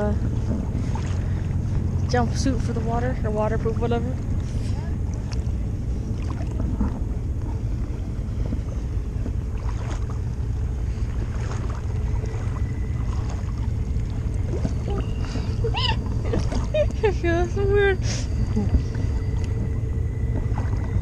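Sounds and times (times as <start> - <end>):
engine running low rumble: 0.0 - 21.0.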